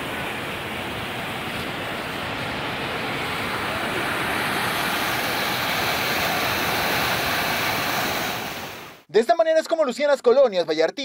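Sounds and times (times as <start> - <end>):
floodwater rushing: 0.0 - 9.0.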